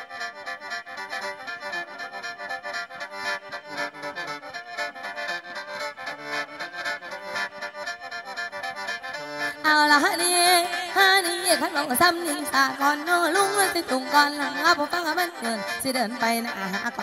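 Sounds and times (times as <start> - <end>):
bamboo mouth organ melody: 0.0 - 17.0.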